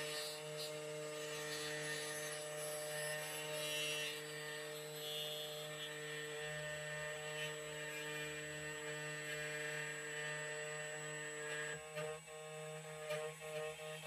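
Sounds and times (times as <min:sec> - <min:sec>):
key cutting machine motor whine: 0:00.0 - 0:14.0.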